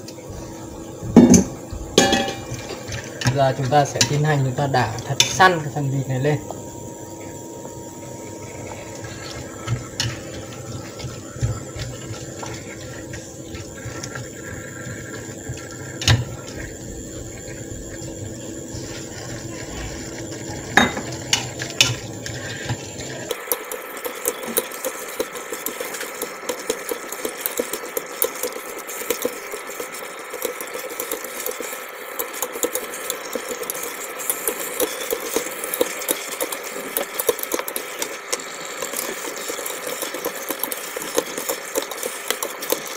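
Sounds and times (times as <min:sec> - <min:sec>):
steady hum: 0:00.0 - 0:42.9
rapid crackle of frying: 0:08.3 - 0:42.9.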